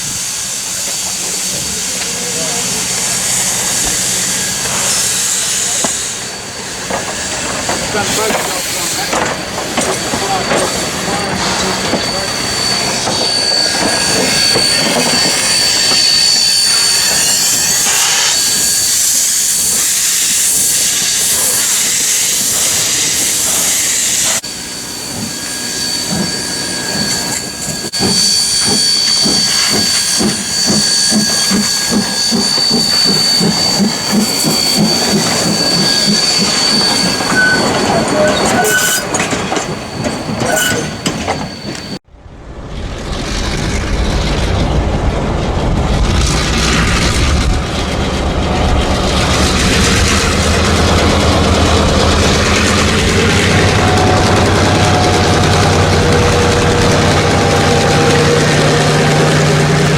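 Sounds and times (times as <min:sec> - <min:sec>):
locomotive chuffing beat: 0:00.0 - 0:18.0, 0:24.3 - 0:42.0, 0:42.6 - 0:59.9
steam locomotive hissing: 0:00.0 - 0:42.0, 0:43.2 - 0:59.9.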